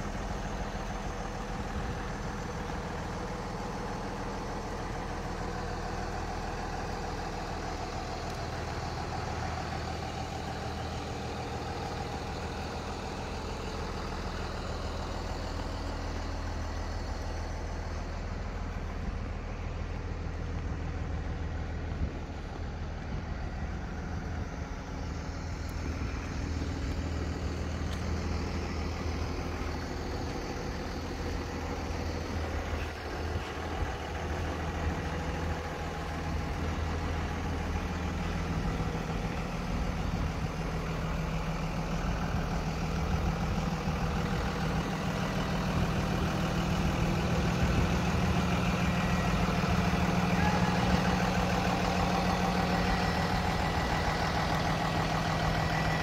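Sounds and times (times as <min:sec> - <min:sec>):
bus engine idling: 0:00.0 - 0:56.0.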